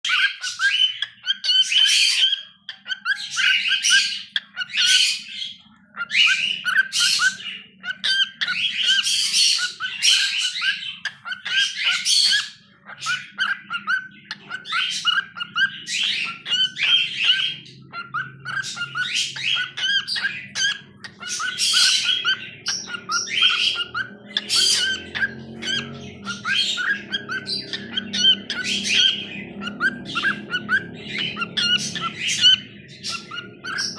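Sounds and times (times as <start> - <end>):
cockatiel chirping and whistling: 0.0 - 33.9.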